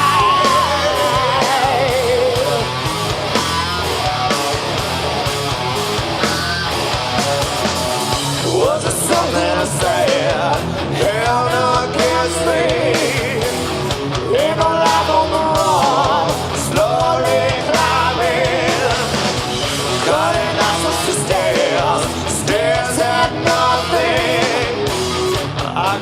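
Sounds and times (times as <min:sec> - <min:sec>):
heavy rock band playing live: 0:00.0 - 0:26.0.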